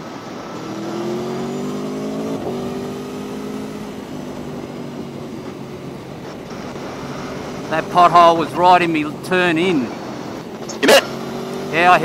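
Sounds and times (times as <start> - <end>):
wind and road noise: 0.0 - 12.0
motorcycle engine revving: 0.2 - 12.0.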